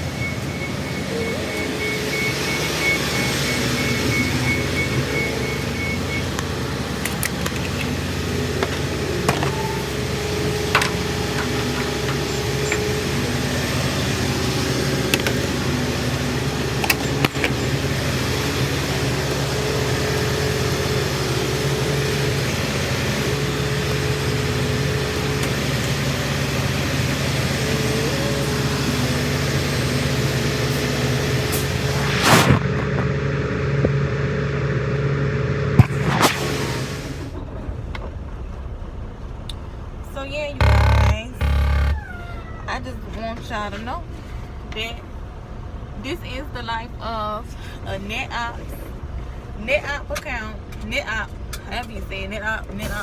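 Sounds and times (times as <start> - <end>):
truck road and engine noise: 0.0 - 53.0.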